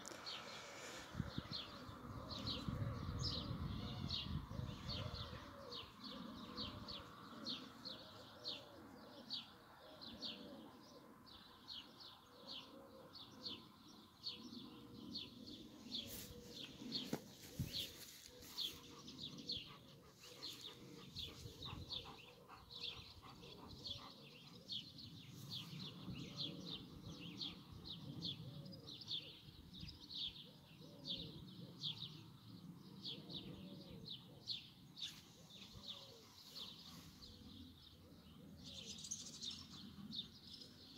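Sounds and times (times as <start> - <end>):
dove cooing: 1.1 - 40.9.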